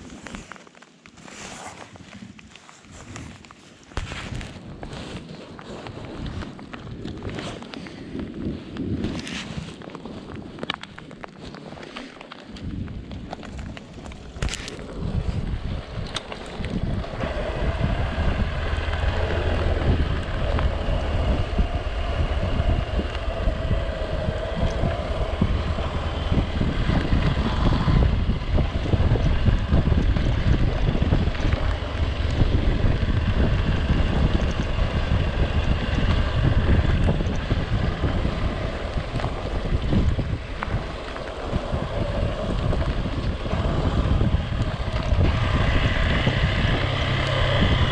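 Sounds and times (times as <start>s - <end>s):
wind buffeting microphone: 1.7s - 47.9s.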